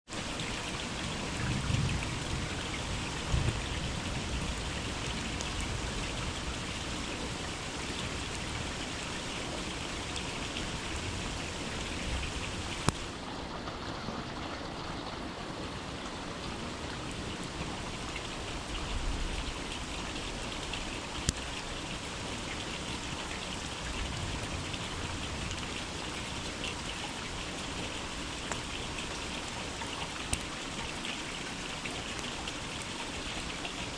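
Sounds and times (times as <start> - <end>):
rain falling in forest: 0.1 - 33.9.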